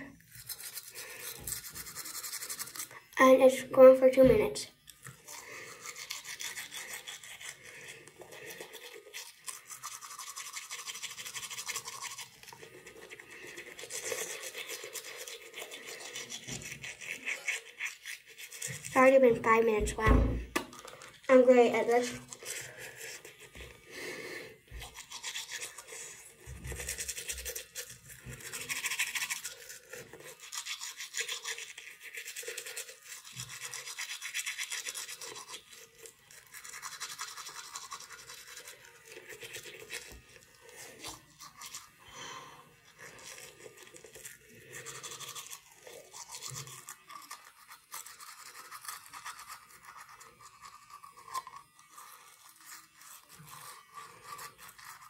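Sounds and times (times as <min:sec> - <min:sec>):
teeth brushing: 0:00.0 - 0:19.8, 0:20.6 - 0:55.0.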